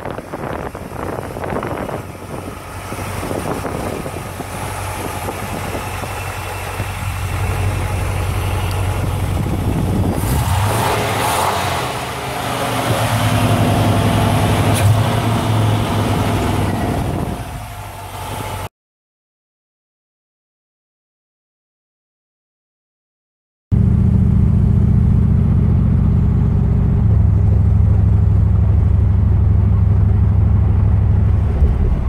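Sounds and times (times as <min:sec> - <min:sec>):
car engine idling: 0:00.0 - 0:18.7, 0:23.8 - 0:32.0.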